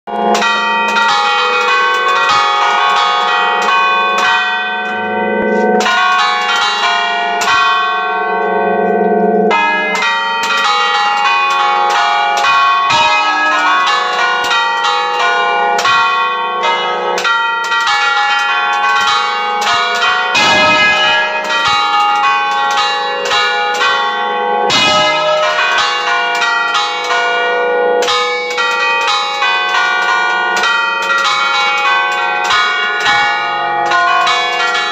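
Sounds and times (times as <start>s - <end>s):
church bells ringing: 0.1s - 34.9s.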